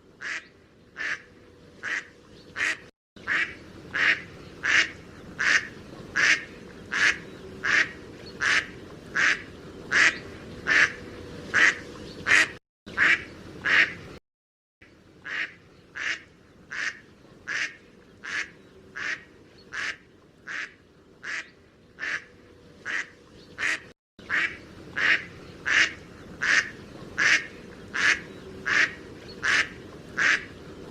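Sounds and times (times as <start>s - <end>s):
duck quacking: 0.2s - 14.0s, 15.2s - 30.5s.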